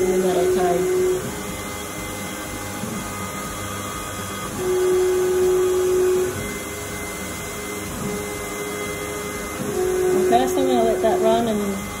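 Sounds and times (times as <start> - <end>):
loud steady tone: 0.0 - 12.0
router cutting wood humming: 0.0 - 12.0.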